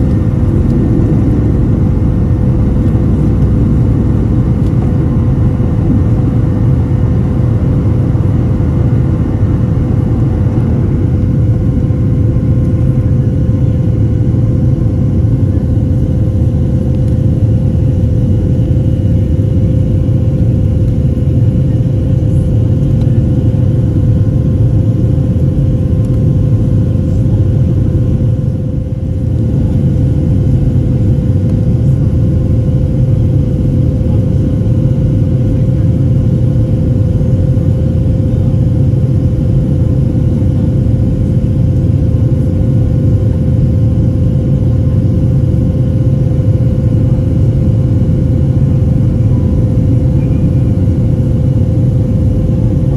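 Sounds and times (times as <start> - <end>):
jet engines rumbling: 0.0 - 52.9
steady hum: 0.0 - 52.9.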